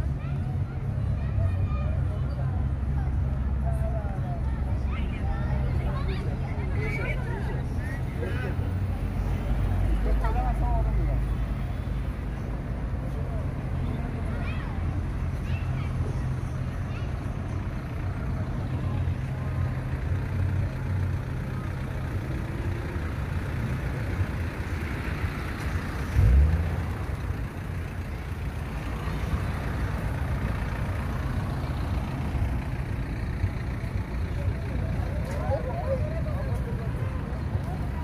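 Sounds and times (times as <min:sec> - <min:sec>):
vehicle engines rumbling: 0:00.0 - 0:38.0
vehicles passing on road: 0:00.0 - 0:38.0.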